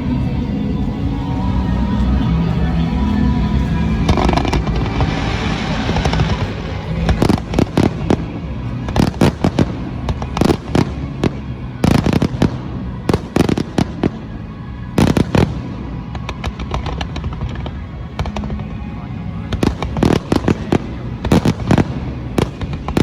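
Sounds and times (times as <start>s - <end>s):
fireworks rumble and crackle: 0.0s - 23.0s.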